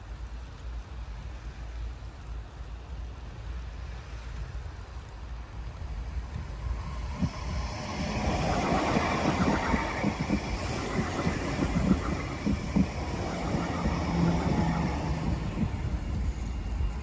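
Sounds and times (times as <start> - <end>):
low steady hum: 0.0 - 17.0
tram wheels rumbling on rail: 0.1 - 17.0.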